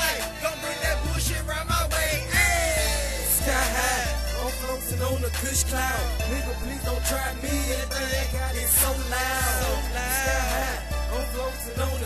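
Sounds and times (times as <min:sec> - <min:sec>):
hip hop beat: 0:00.0 - 0:12.0.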